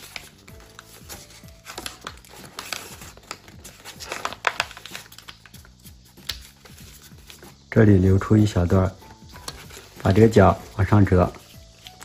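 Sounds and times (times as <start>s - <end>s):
paper being folded and creased: 0.0s - 7.6s, 9.2s - 12.0s
faint background music: 0.0s - 12.0s.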